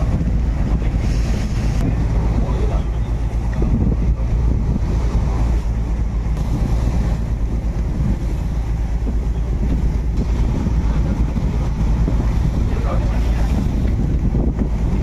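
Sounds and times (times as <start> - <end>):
ferry running noise: 0.0 - 15.0
wind buffeting microphone: 0.0 - 15.0.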